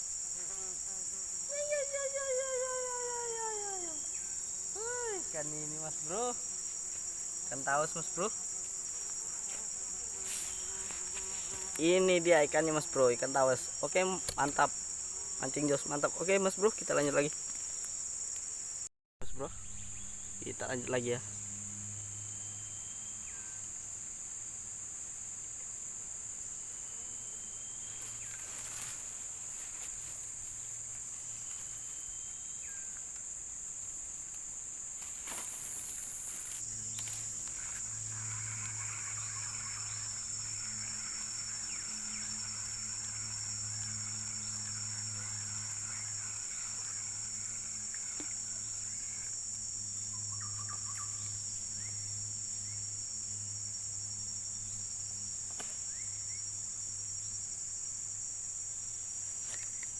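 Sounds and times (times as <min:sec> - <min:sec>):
insects shrilling: 0:00.0 - 0:24.8, 0:26.4 - 0:57.4.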